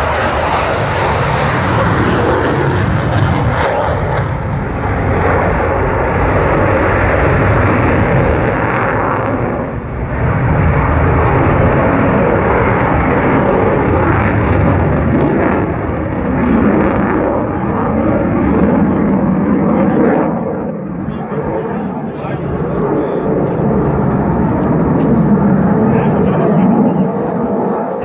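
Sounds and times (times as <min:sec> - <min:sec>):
jet flying overhead: 0:00.0 - 0:28.0.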